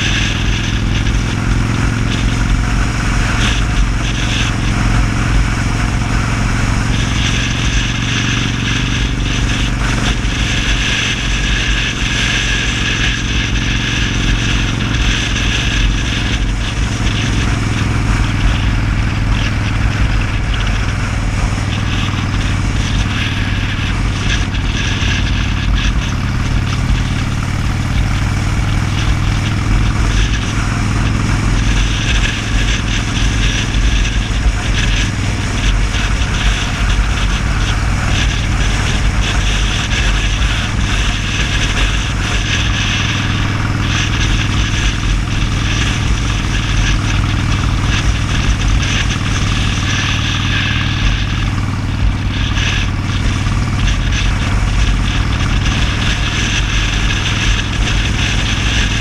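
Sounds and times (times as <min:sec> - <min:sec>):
motorcycle engine cruising: 0:00.0 - 0:59.0
road noise: 0:00.0 - 0:59.0
rushing wind: 0:00.0 - 0:59.0.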